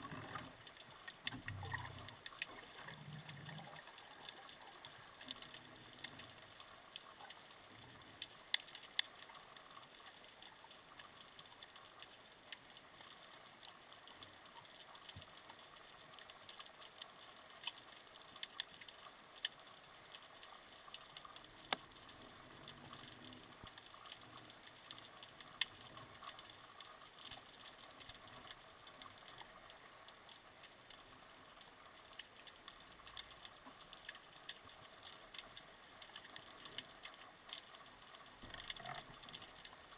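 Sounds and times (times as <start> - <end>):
sharp clicks and crackles: 0.0 - 39.9
soft underwater hiss: 0.0 - 39.9.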